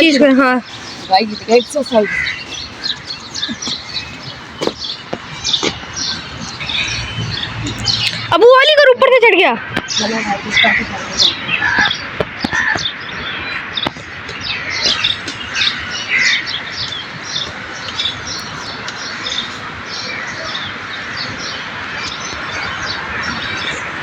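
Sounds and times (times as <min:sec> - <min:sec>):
many birds chirping: 0:00.0 - 0:24.0.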